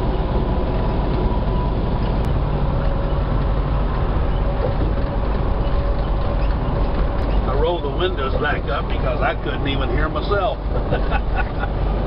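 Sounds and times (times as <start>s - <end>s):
road roar: 0.0s - 12.0s
wind noise in truck cab: 0.0s - 12.0s.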